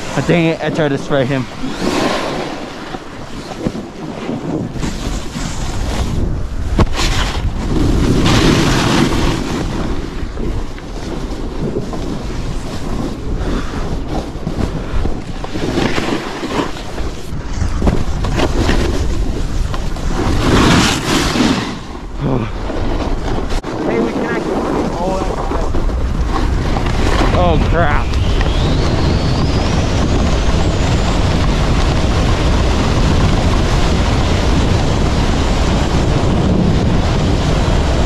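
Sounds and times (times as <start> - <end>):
snowboard scraping over snow: 0.0 - 38.0
wind on microphone: 0.0 - 38.0.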